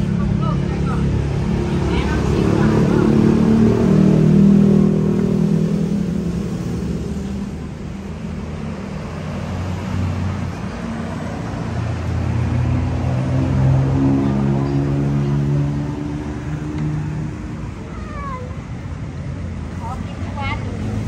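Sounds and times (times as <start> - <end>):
large vehicle engine humming: 0.0 - 21.0
passing cars: 0.0 - 21.0.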